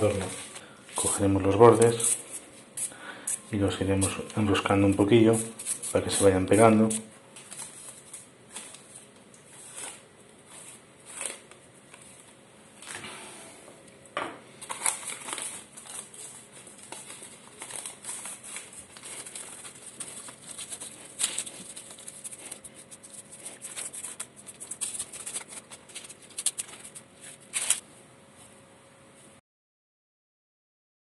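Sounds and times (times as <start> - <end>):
baking paper crinkling: 0.0 - 2.9, 3.7 - 13.0, 14.5 - 27.8.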